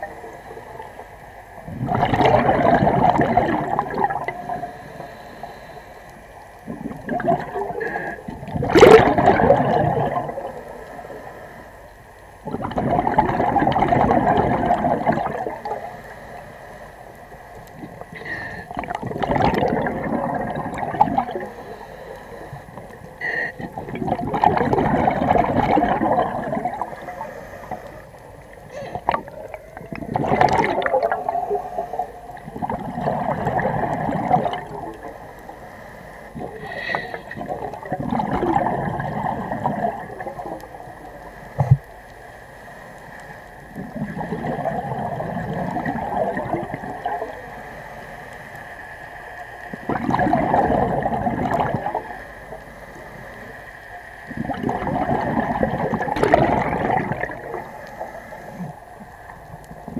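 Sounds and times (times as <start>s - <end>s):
exhaled bubbles gurgling: 0.0s - 16.1s, 17.0s - 42.2s, 43.2s - 48.6s, 49.4s - 59.9s
faint steady tone: 2.7s - 8.5s, 9.5s - 12.6s, 13.9s - 59.9s.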